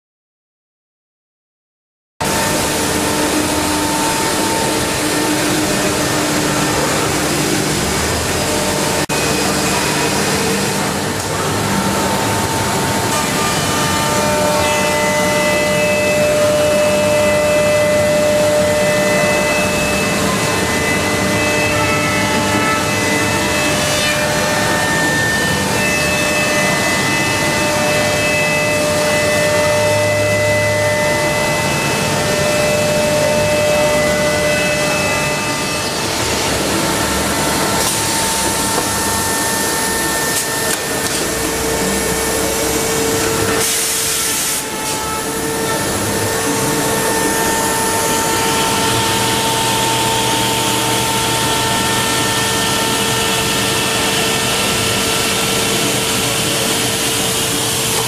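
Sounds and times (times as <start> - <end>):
woodworking machine whining: 2.2 - 58.0.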